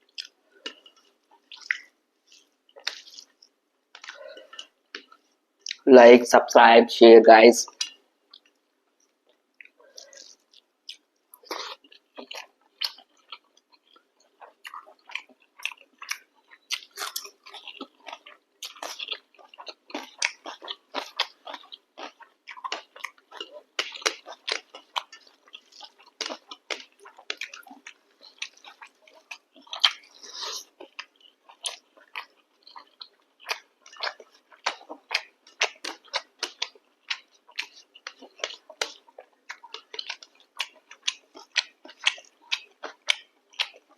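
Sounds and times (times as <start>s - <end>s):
person chewing food: 0.0s - 5.8s, 7.7s - 43.9s.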